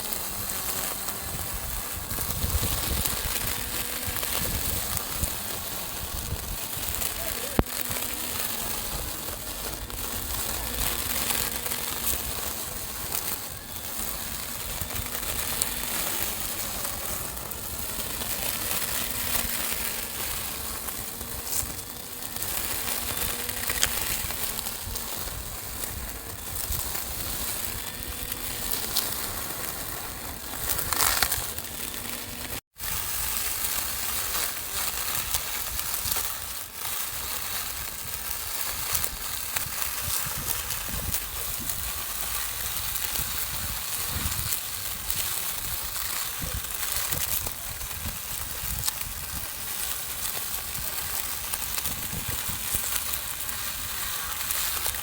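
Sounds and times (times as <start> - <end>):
lawn mower cutting grass: 0.0 - 55.0.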